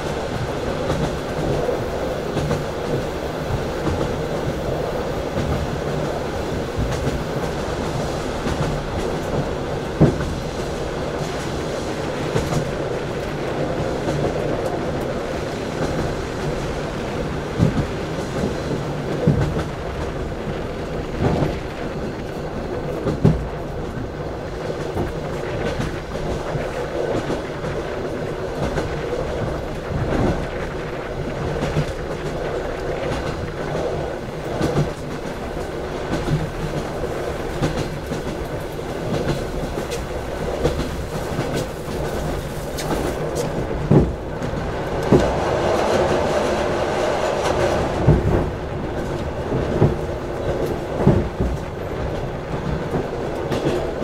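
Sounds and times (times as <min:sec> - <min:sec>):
train wheel-on-rail rumble: 0:00.0 - 0:54.0
wheels clacking over rail joints: 0:00.0 - 0:54.0.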